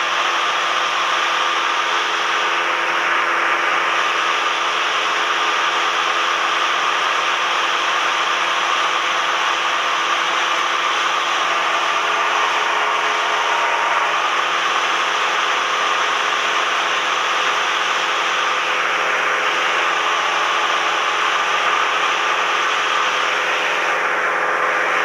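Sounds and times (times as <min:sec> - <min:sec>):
airplane engine droning in cabin: 0:00.0 - 0:25.0.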